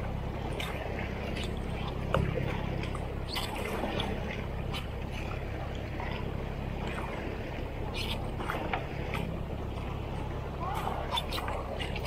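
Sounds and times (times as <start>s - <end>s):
boat engine drone: 0.0s - 12.0s
paddle splashes: 0.0s - 12.0s
water splashing and rushing: 0.0s - 12.0s.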